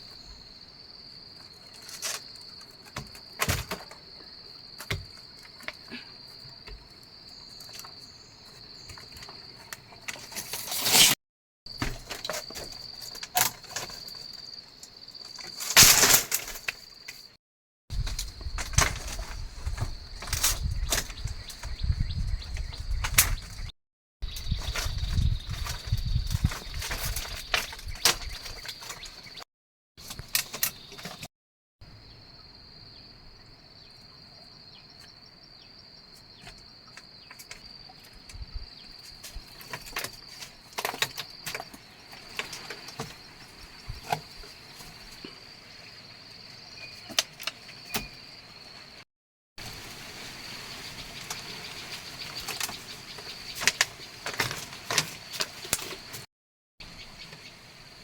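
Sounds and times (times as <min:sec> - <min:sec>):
insects droning: 0:00.0 - 0:11.1, 0:11.7 - 0:29.4, 0:30.0 - 0:49.0, 0:49.6 - 0:58.0.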